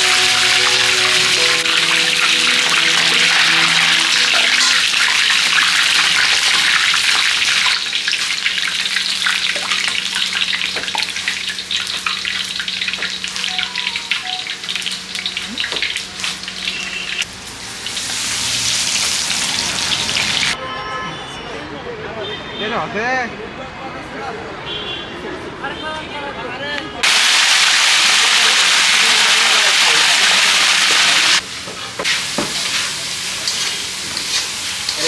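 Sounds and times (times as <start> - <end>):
seafood frying in hot oil: 0.0 - 20.6, 27.0 - 35.0.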